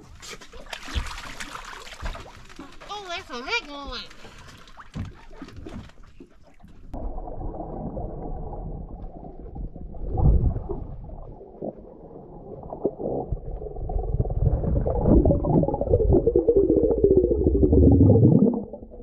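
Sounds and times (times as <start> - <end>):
underwater water sloshing: 0.0 - 19.0.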